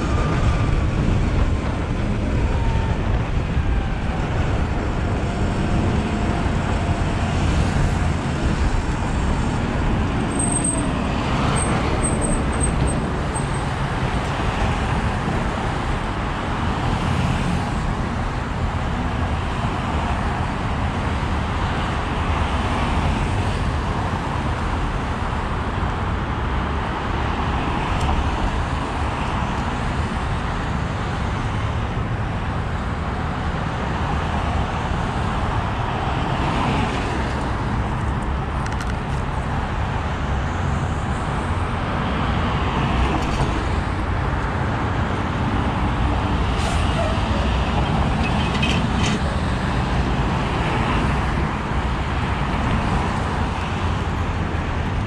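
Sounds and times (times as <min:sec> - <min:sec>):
city traffic and road noise: 0:00.0 - 0:55.0.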